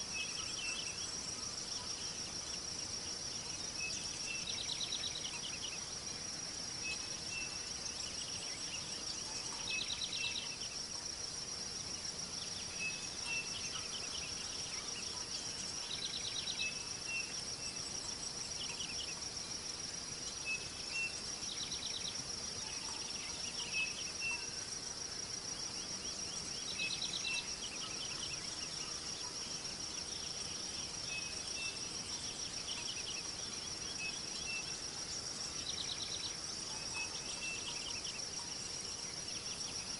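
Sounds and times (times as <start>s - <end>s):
faint hiss: 0.0s - 39.9s
insect high-pitched trill: 0.0s - 39.9s.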